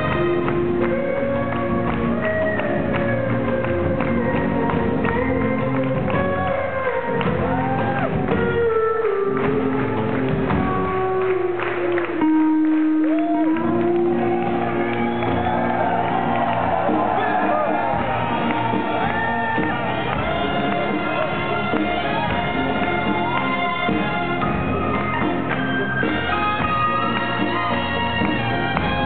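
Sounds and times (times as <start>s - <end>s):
live band accompaniment: 0.0s - 29.0s.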